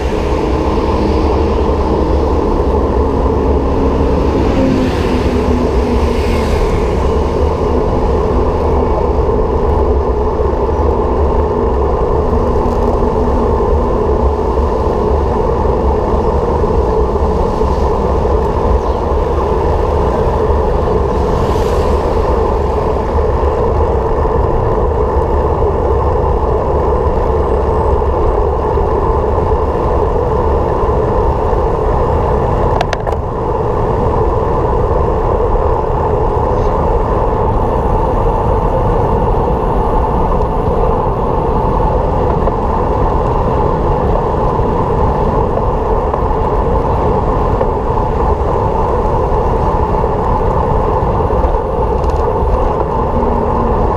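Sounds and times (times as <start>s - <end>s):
vehicle road and wind noise: 0.0s - 53.9s.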